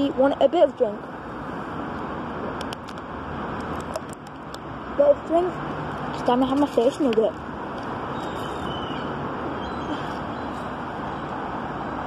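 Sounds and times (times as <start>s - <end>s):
dull hiss and rumble: 0.0s - 12.0s.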